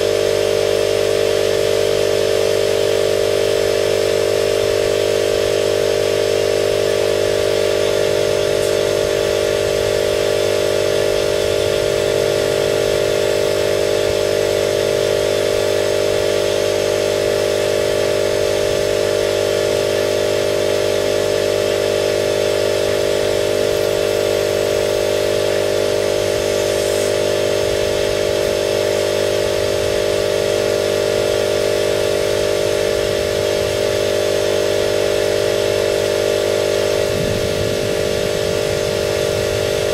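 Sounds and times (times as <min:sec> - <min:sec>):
motor humming: 0:00.0 - 0:39.9.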